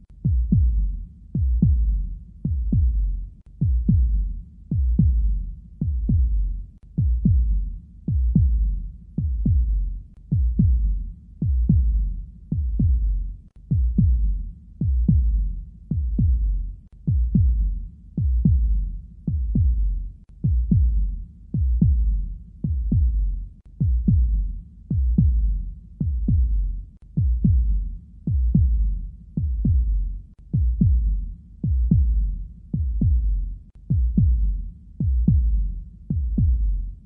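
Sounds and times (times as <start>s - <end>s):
heartbeat thumps: 0.0s - 37.0s.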